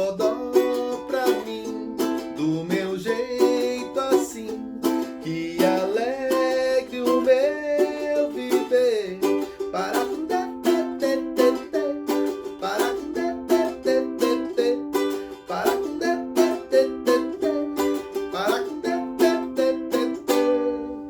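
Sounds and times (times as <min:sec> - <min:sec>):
ukulele strumming: 0:00.0 - 0:21.0.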